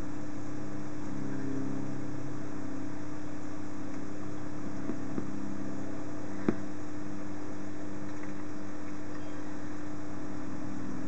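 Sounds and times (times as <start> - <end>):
small motor humming: 0.0 - 11.0.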